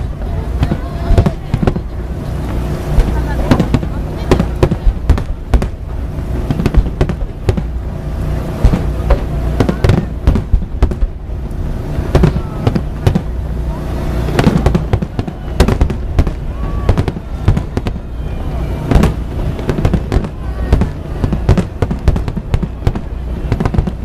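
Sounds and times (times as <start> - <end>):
fireworks bangs: 0.0 - 24.0
low rumble: 0.0 - 24.0.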